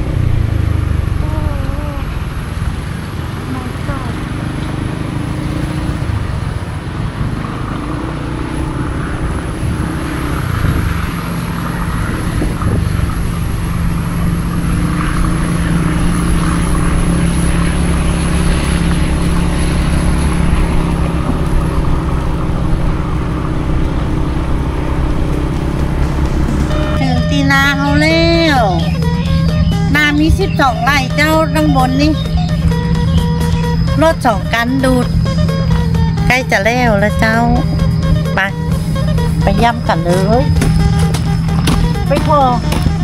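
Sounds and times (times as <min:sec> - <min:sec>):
road and wind noise: 0:00.0 - 0:43.0
vehicle engine humming: 0:00.0 - 0:43.0.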